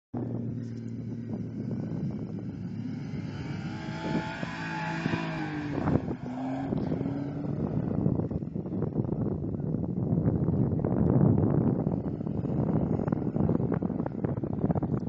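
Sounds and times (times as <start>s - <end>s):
car engine revving: 0.2s - 9.1s, 11.4s - 15.0s.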